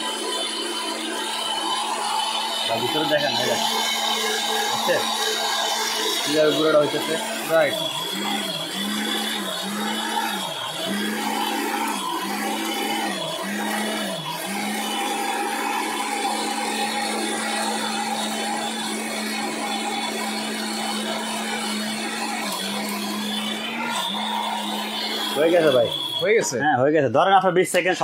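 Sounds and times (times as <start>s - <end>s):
electric blender grinding: 0.0s - 26.8s.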